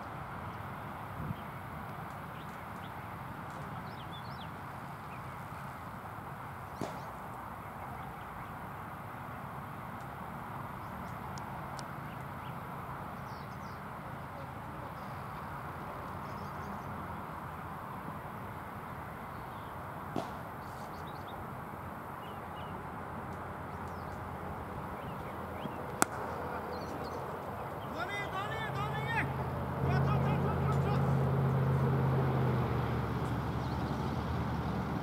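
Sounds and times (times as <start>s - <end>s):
outdoor background noise: 0.0s - 35.0s.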